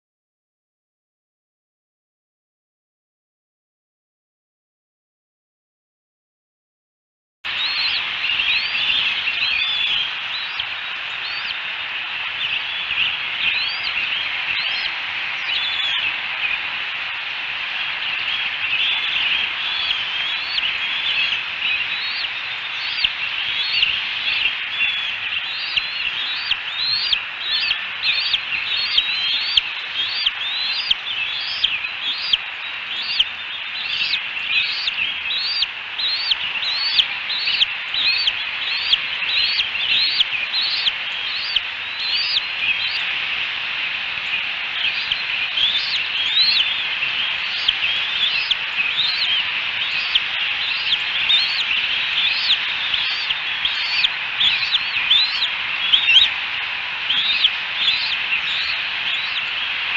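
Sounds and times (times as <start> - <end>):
eaglet chicks peeping: 7.5 - 59.9.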